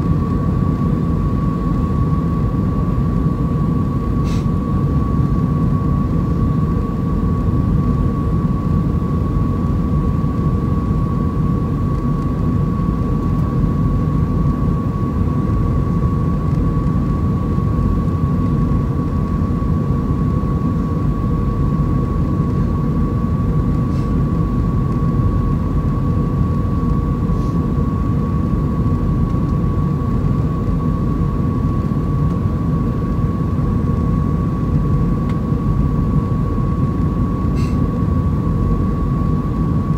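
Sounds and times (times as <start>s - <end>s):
airplane cabin roar: 0.0s - 39.9s
steady high whine: 0.0s - 39.9s.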